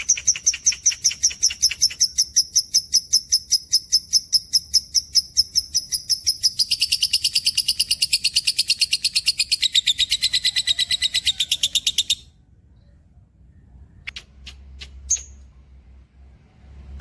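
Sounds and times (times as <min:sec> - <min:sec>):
bird chirping and trilling: 0:00.0 - 0:12.4, 0:14.0 - 0:15.5.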